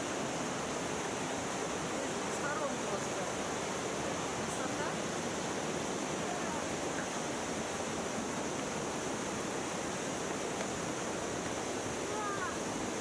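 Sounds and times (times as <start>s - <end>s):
rushing mountain river: 0.0s - 13.0s.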